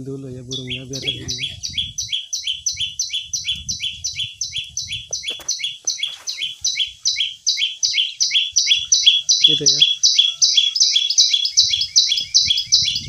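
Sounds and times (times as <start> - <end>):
bird two-part chirp: 0.5 - 13.0.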